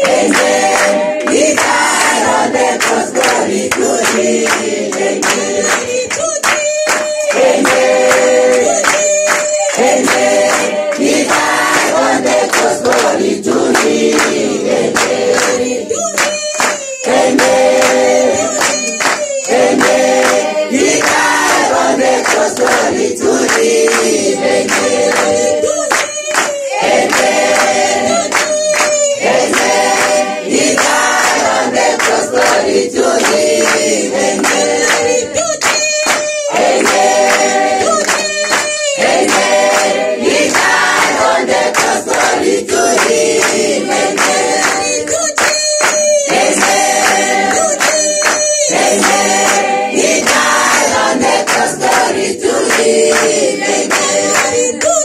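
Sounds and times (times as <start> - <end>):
congregation singing gospel: 0.0 - 55.0
hands clapping: 0.0 - 55.0.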